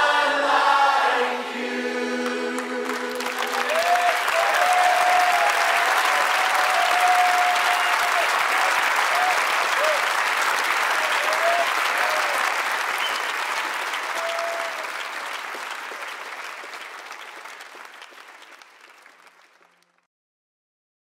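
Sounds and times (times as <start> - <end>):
crowd cheering: 2.2 - 20.0
crowd applauding: 2.2 - 20.1.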